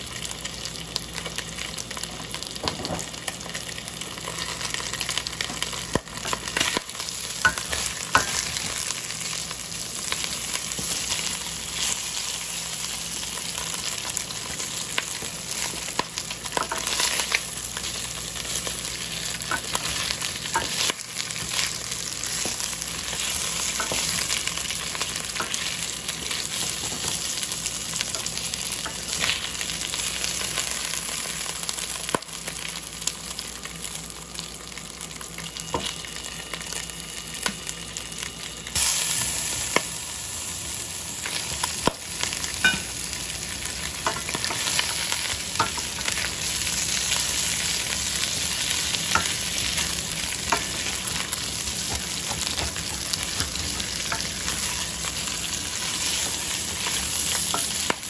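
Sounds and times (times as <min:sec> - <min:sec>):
food sizzling in a hot pan: 0:00.0 - 0:58.0.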